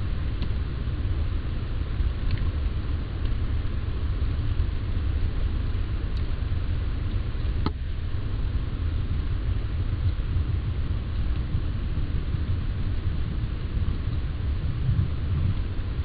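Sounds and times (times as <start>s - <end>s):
low rumble: 0.0s - 16.0s
microphone hiss: 0.0s - 16.0s.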